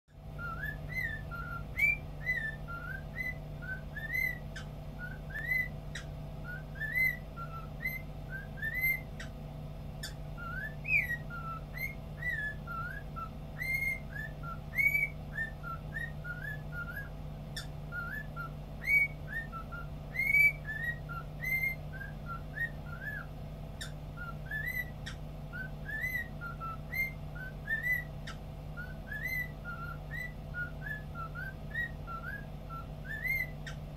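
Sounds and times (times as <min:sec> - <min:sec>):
cockatiel whistling: 0:00.3 - 0:09.4, 0:10.0 - 0:33.8.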